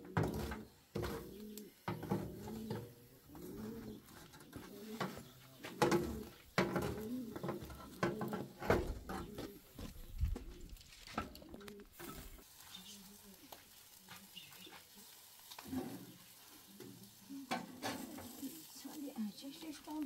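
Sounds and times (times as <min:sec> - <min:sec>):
pigeons cooing: 0:00.0 - 0:13.4, 0:15.6 - 0:20.0.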